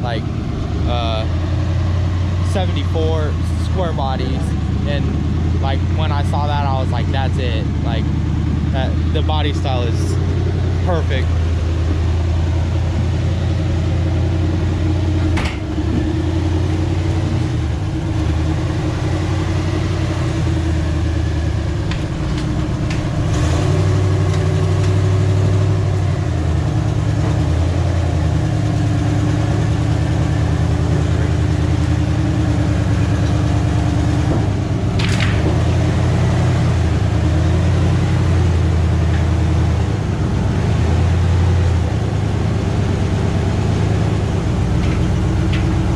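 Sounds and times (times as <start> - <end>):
vehicle engine droning: 0.0 - 45.9.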